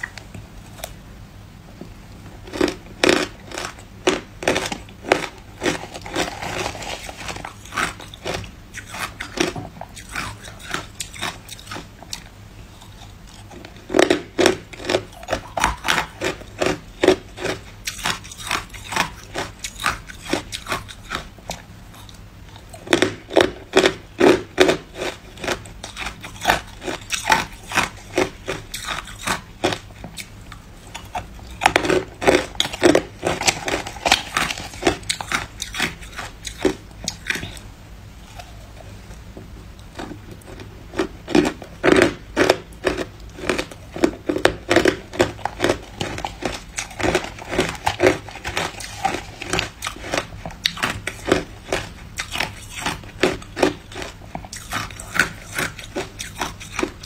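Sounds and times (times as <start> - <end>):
ice cubes crunched by teeth: 2.5 - 11.9, 13.9 - 21.3, 22.8 - 29.8, 31.0 - 37.6, 40.0 - 57.0.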